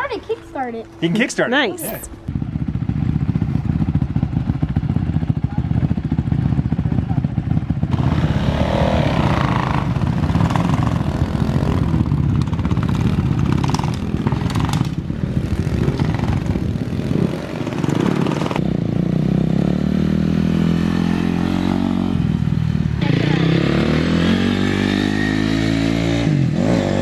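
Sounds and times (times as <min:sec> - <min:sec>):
dirt bike engines running: 0:00.0 - 0:27.0
dirt bike riding past: 0:00.0 - 0:27.0.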